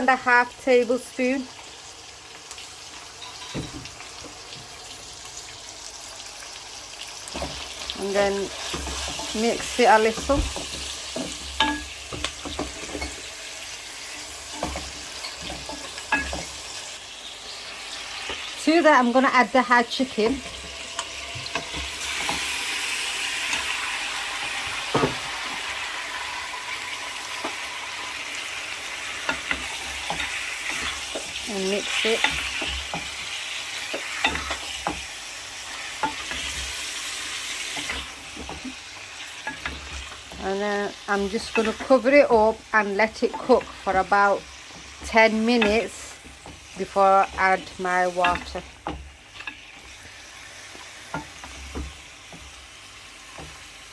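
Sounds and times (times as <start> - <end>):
onions sizzling in oil: 0.0 - 53.9
spoon scraping a pan: 2.5 - 4.1, 7.1 - 17.3, 19.9 - 53.9.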